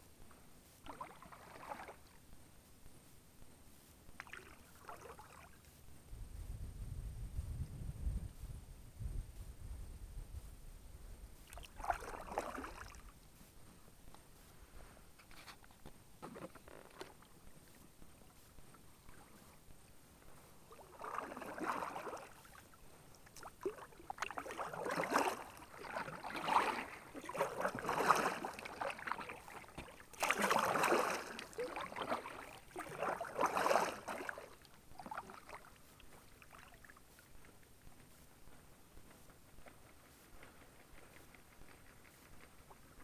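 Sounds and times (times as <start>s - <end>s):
paddle swishing through water: 0.3s - 6.0s, 11.3s - 43.0s.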